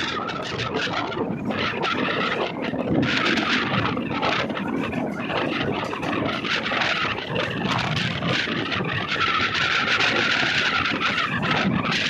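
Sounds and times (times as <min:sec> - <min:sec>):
passenger train noise: 0:00.0 - 0:12.0.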